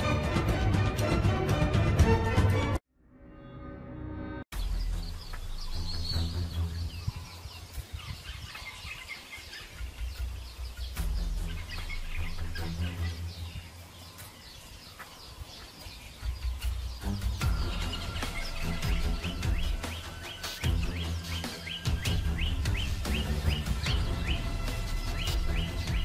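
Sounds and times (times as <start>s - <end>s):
birds chirping: 4.5s - 26.0s.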